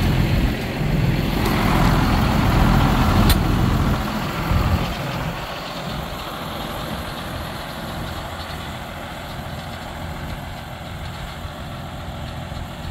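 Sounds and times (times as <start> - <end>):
diesel tractor engine idling: 0.0 - 12.9.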